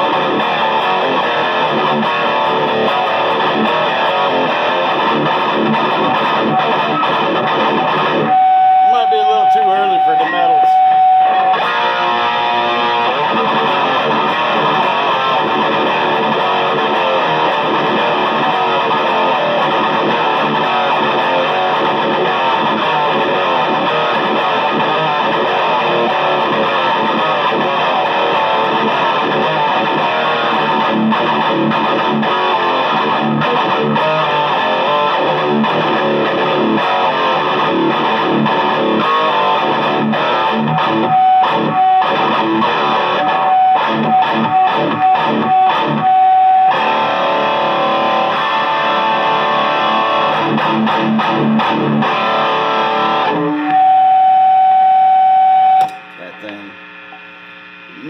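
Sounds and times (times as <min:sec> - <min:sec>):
overdriven electric guitar riffing: 0:00.0 - 0:57.1.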